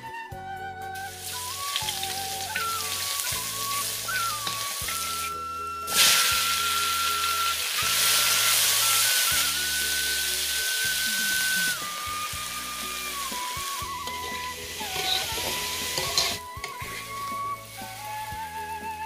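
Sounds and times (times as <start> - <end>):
flute music with bass line: 0.0 - 19.0
garlic sizzling in hot oil: 1.0 - 19.0.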